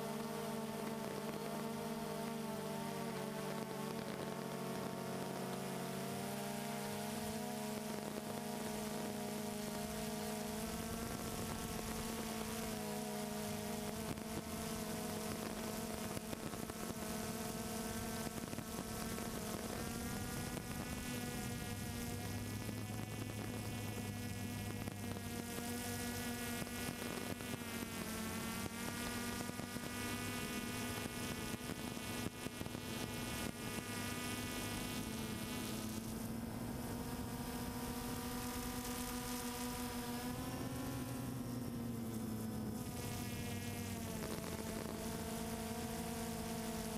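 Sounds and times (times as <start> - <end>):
drone propellers buzzing: 0.1 - 46.9.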